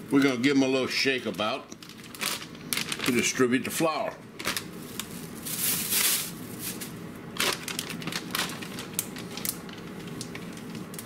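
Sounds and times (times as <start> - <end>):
plastic bag crinkling: 0.2 - 3.5, 4.4 - 11.0.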